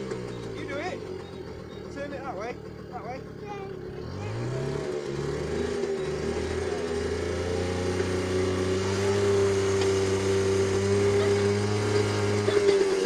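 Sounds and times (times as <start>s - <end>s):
two-stroke moped engine revving: 0.0s - 13.0s.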